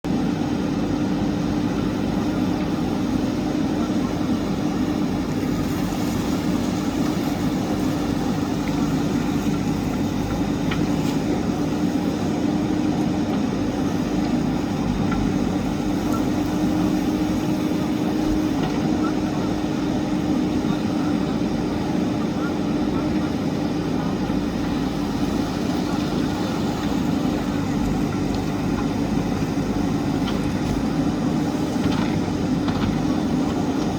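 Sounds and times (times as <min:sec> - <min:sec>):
diesel engine running steadily: 0:00.0 - 0:33.9.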